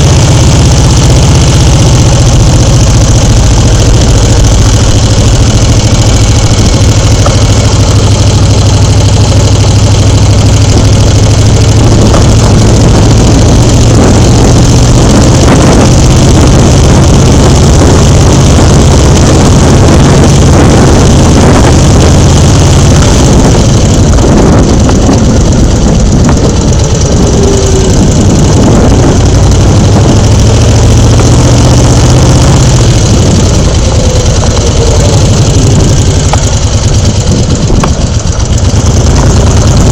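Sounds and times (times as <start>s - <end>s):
loud engine running: 0.0s - 39.9s.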